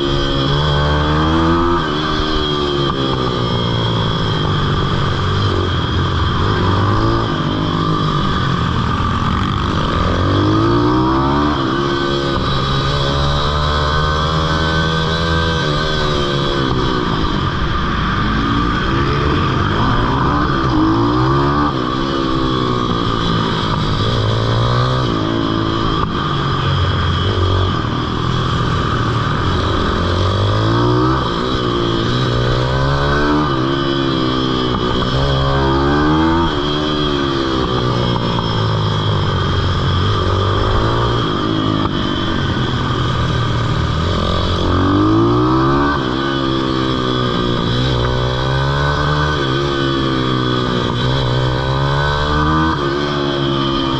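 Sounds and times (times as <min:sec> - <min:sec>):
small motorbike engine revving: 0:00.0 - 0:53.9.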